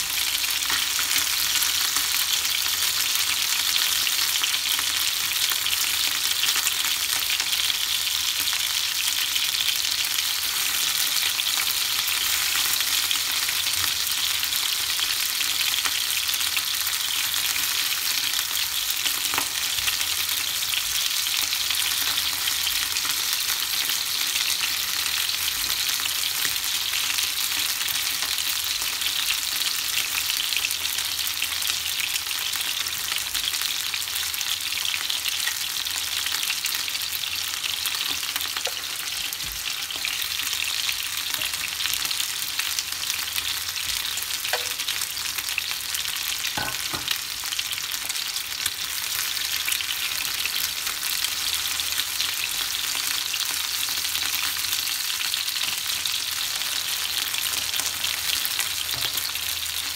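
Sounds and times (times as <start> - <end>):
chicken wings sizzling in pan: 0.0 - 59.9.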